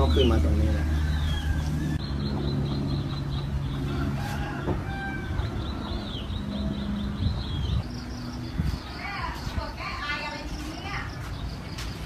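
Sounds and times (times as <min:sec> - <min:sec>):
birds clucking and chirping: 0:00.0 - 0:12.0.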